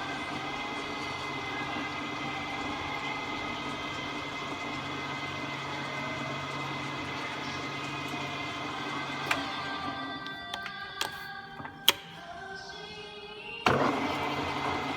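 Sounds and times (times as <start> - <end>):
milling machine humming: 0.0 - 14.9
motor whining tones: 0.0 - 14.9.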